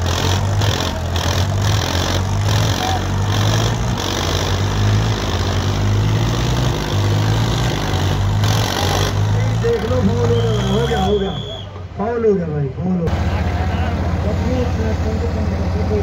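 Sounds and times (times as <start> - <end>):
tractor diesel engines labouring: 0.0 - 16.0.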